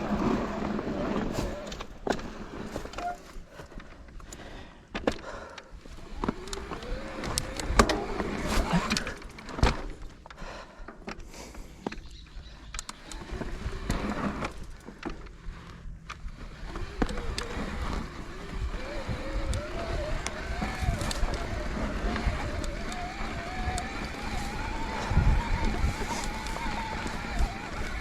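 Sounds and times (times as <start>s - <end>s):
electric bike motor whining: 0.0s - 3.4s, 5.7s - 10.0s, 11.9s - 28.0s
bike rattling over rough ground: 0.0s - 28.0s.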